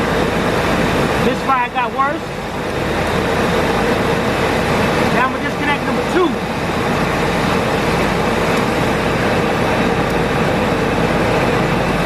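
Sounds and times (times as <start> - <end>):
engine idling roughly with misfires: 0.0 - 12.0.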